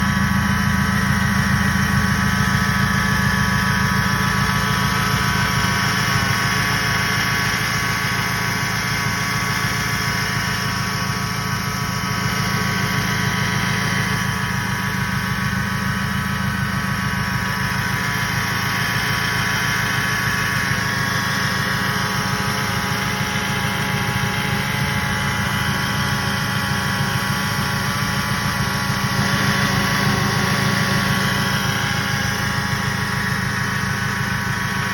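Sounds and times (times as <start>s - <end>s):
engine idling: 0.0s - 34.9s
power steering pump whining: 0.0s - 34.9s.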